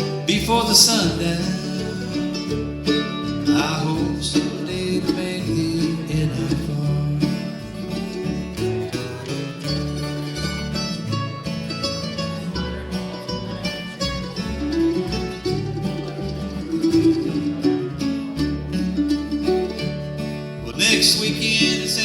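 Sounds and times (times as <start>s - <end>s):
acoustic guitar picking: 0.0s - 22.0s
mandolin picking: 0.0s - 22.0s
upright bass walking notes: 0.0s - 22.0s.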